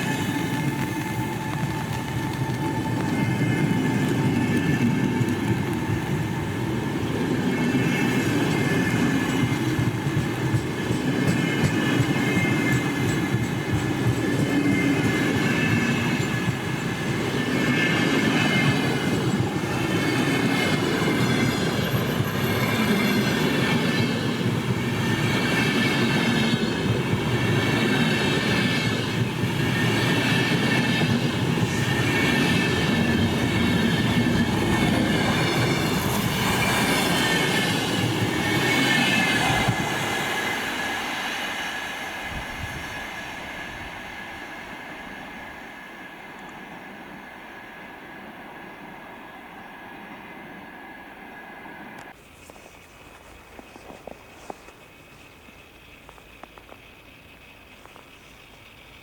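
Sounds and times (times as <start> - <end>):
train rumbling on rails: 0.0 - 59.0
wheels squealing on rail: 0.0 - 59.0.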